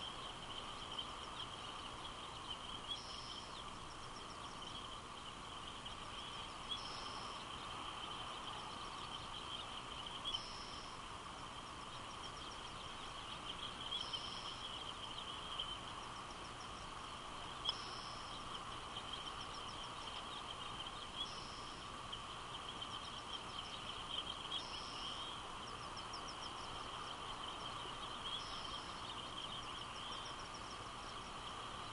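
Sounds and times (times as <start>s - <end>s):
bird song with ticking notes: 0.0s - 31.9s
outdoor hiss: 0.0s - 31.9s.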